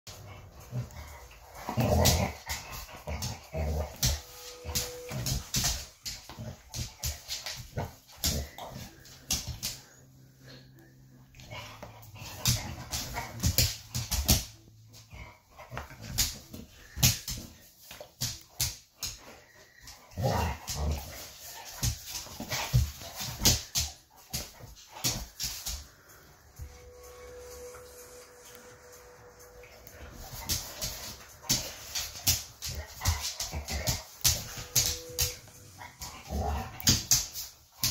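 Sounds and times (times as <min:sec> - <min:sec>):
dog play growls: 0:00.1 - 0:17.6, 0:19.2 - 0:26.8, 0:29.4 - 0:37.4.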